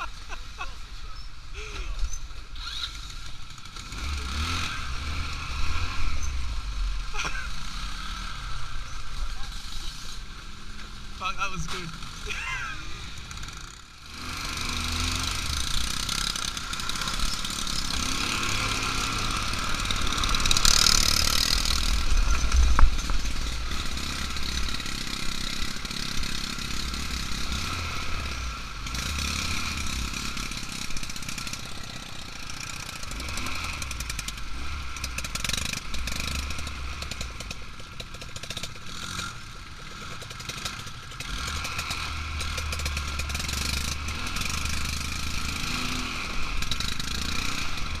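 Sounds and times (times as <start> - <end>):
quad engine running: 0.0 - 48.0.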